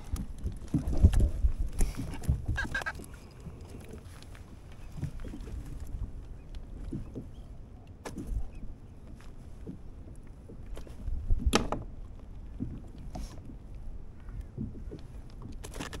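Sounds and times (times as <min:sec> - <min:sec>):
clicks and rustles of handling fish: 0:00.0 - 0:16.0
water lapping against hull: 0:00.0 - 0:16.0.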